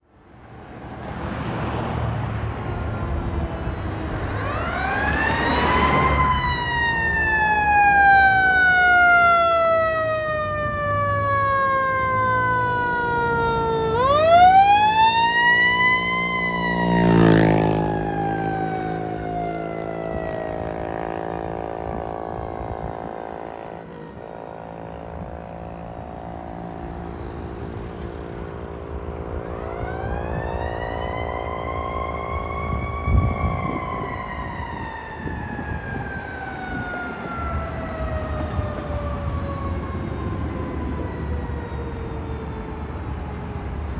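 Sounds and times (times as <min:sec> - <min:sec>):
engine drone: 0:00.6 - 0:43.9
fire engine siren wailing: 0:01.3 - 0:43.9.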